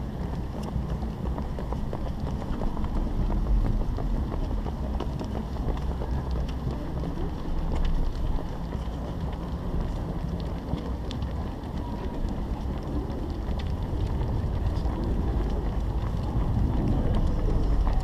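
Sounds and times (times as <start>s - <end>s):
runners' footsteps on asphalt: 0.0s - 18.0s
wind buffeting microphone: 0.0s - 18.0s.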